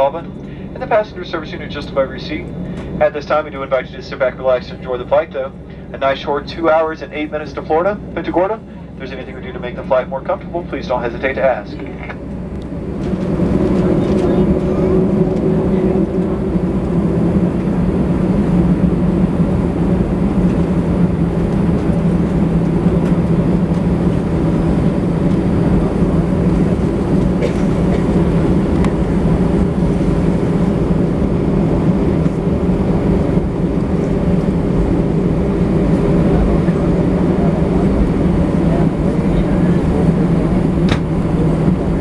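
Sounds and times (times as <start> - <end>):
aircraft cabin drone: 0.0 - 42.0
jet engines running at low power: 0.0 - 42.0
low rumble: 0.0 - 42.0.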